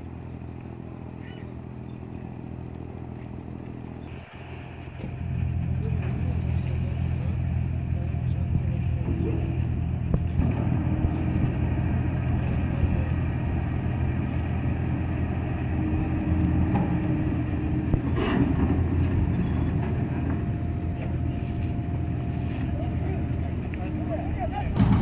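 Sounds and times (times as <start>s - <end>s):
ferry engine humming: 0.0s - 25.0s.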